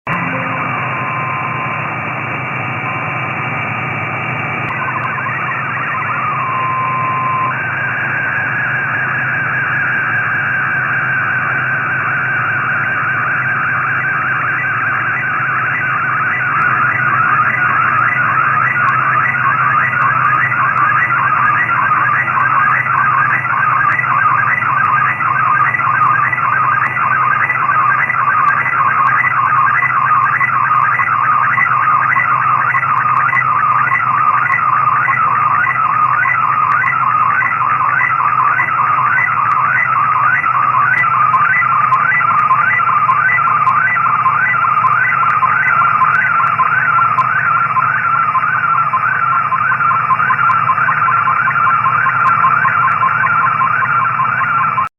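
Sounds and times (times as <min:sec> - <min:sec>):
warbling digital data tones: 0:00.1 - 0:54.8.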